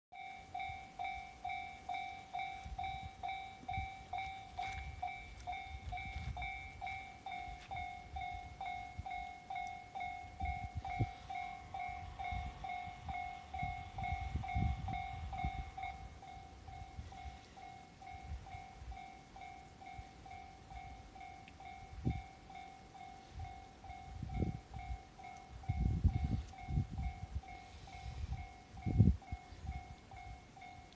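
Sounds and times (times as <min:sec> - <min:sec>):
level crossing warning bell: 0:00.1 - 0:30.9.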